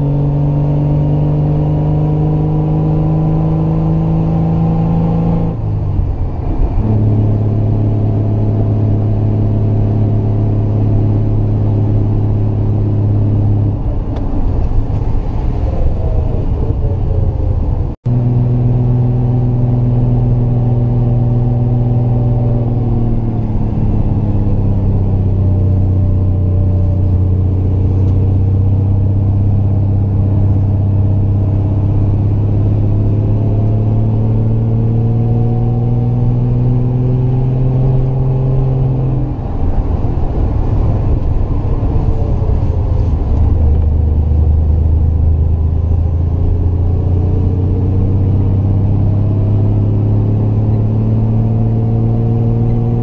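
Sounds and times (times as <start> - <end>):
car engine pulling uphill: 0.0 - 53.0.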